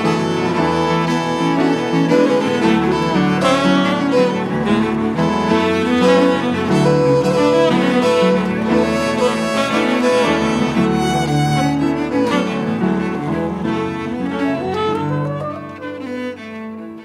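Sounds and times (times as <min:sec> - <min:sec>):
bowed strings: 0:00.0 - 0:17.0
piano: 0:00.0 - 0:17.0
tenor saxophone: 0:00.0 - 0:17.0.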